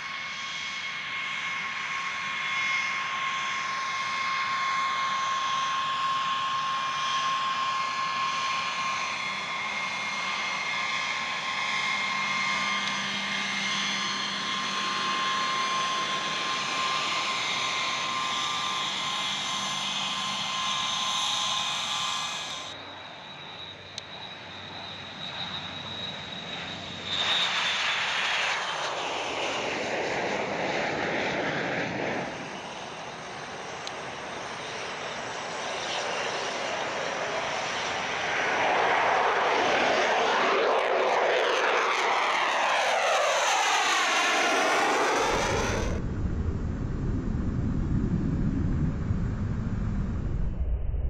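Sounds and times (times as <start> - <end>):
aircraft rumble in flight: 0.0 - 51.0
jet engine rushing: 0.1 - 51.0.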